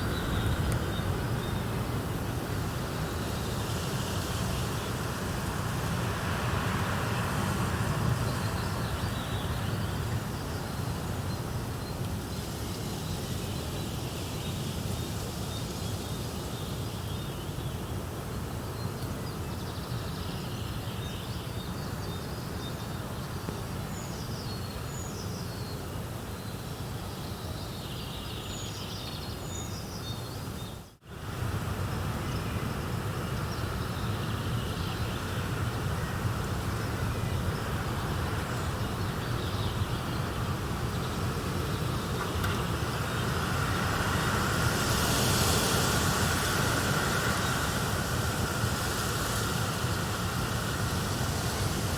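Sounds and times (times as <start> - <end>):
steady rushing nature ambience: 0.0 - 51.9.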